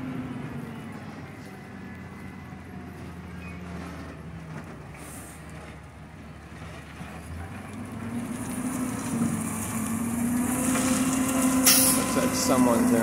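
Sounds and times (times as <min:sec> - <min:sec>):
garbage truck engine: 0:00.0 - 0:13.0.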